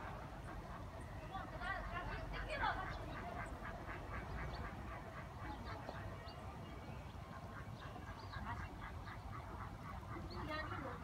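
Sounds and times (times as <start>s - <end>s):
ducks quacking: 0.0s - 6.4s, 7.2s - 11.0s.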